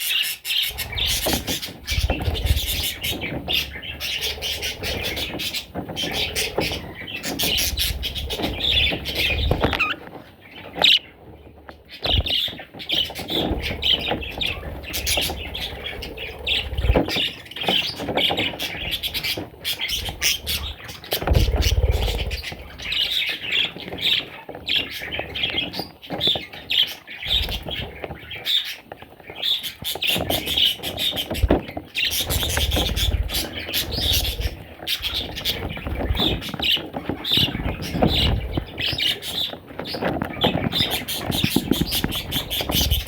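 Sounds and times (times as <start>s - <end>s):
budgerigars chirping and squawking: 0.0s - 43.0s.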